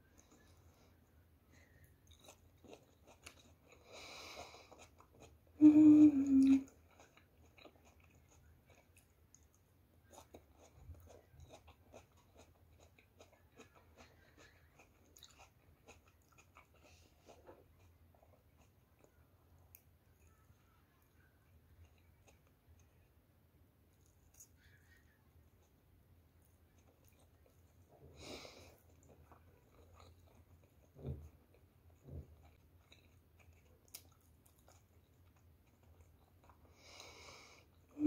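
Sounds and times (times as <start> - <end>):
chewing crunchy fried food: 0.0 - 5.6, 6.6 - 38.0.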